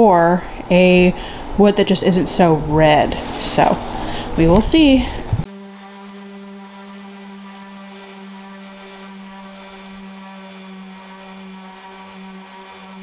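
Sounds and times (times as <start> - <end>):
orbital sander motor hum: 0.0 - 13.0.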